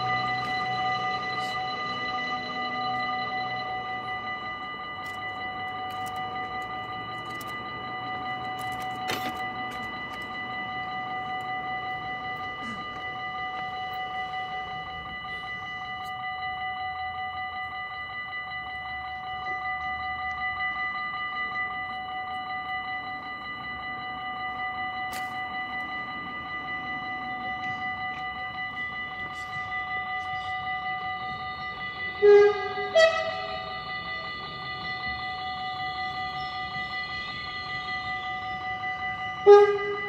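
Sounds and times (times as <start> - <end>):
level crossing bell ringing: 0.0 - 40.0.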